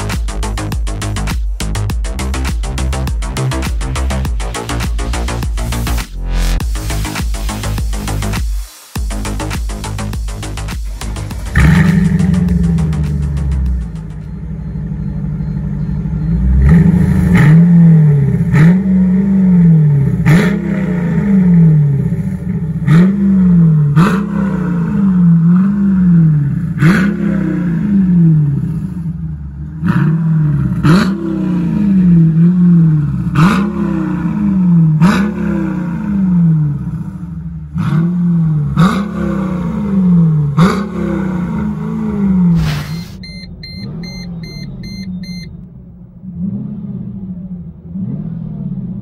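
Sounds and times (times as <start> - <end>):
car engine revving in blips: 0.0 - 49.0.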